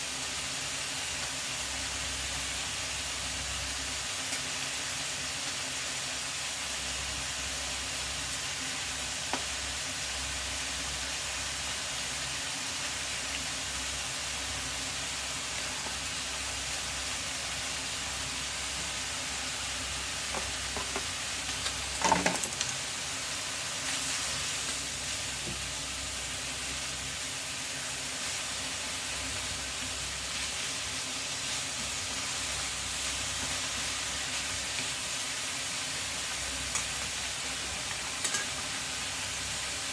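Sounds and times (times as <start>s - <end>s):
mushrooms sizzling in a pan: 0.0s - 39.9s.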